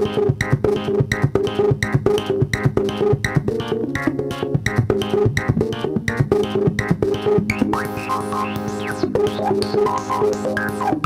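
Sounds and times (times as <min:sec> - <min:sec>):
buzzing synth tone with filter sweep: 0:00.0 - 0:11.0
synthesizer percussive pitched notes: 0:00.0 - 0:11.0.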